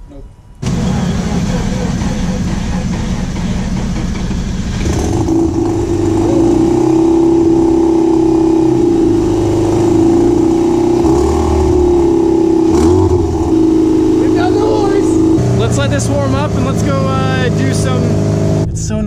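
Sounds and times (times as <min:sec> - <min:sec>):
rotary engine droning: 0:00.6 - 0:18.7.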